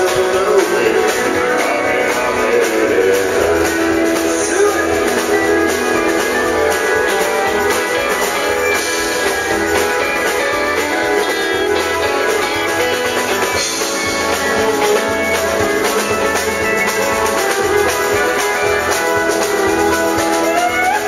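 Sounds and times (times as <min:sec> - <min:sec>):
electric guitar: 0:00.0 - 0:21.0
live country band playing: 0:00.0 - 0:21.0
strummed acoustic guitars: 0:00.0 - 0:21.0.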